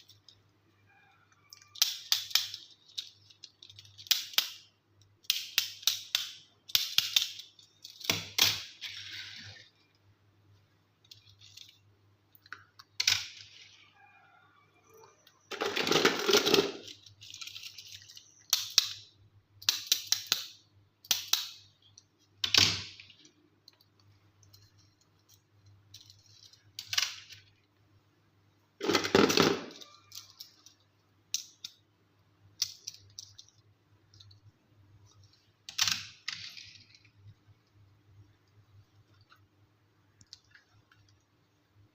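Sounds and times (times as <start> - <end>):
plastic toys clicking and tapping: 0.0 - 0.6, 1.2 - 9.8, 11.0 - 13.9, 15.0 - 27.8, 28.8 - 37.8.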